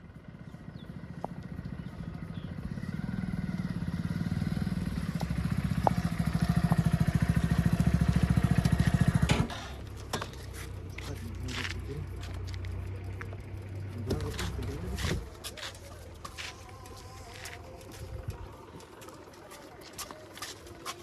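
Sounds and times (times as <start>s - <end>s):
tractor diesel engine running: 0.0s - 20.4s.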